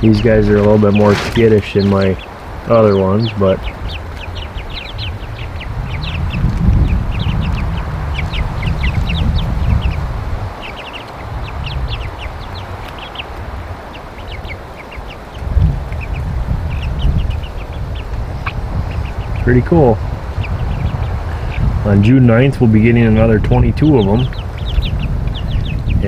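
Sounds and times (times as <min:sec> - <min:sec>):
chicks peeping and cheeping: 0:00.0 - 0:26.0
low rumbling noise: 0:00.0 - 0:26.0.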